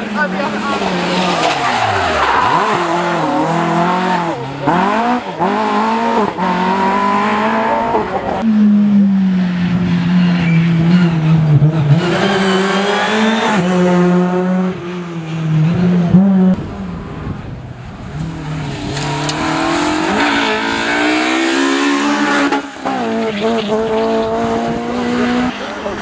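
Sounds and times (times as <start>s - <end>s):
rally car engines at full throttle: 0.0s - 26.0s.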